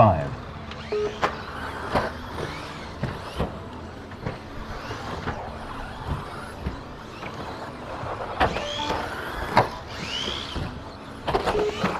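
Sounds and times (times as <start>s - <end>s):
high-pitched motor whines: 0.0s - 11.9s.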